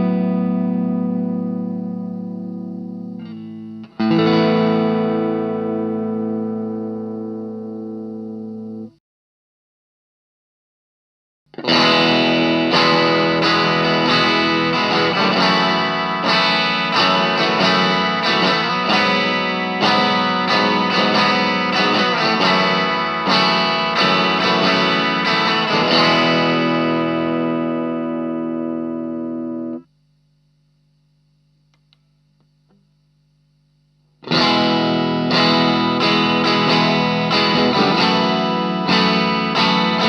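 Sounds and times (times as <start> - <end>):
faint amp hum: 0.0 - 9.0, 11.5 - 40.0
overdriven electric guitar chords: 0.0 - 9.0, 11.5 - 40.0.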